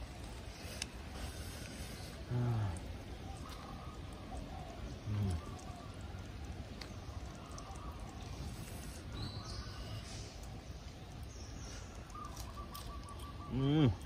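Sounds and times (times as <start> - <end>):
forest ambience: 0.0 - 14.0
faint bird chirps: 1.6 - 14.0.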